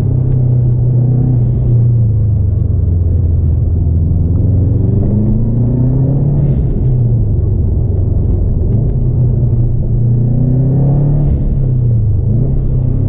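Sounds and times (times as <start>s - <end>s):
car engine drone from inside: 0.0s - 13.0s.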